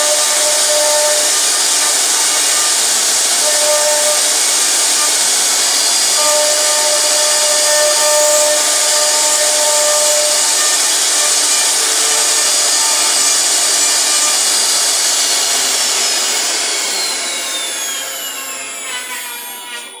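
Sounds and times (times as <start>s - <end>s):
router spindle milling wood: 0.0s - 20.0s.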